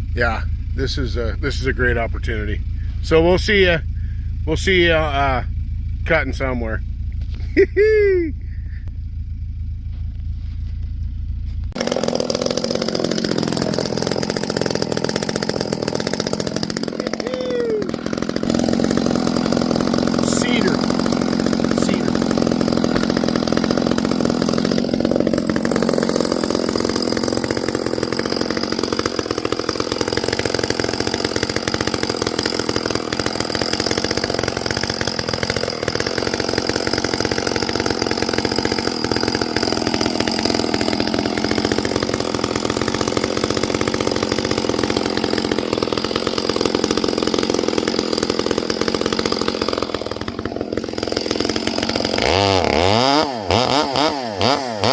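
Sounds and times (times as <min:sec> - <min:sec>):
chainsaw running: 0:00.0 - 0:54.9.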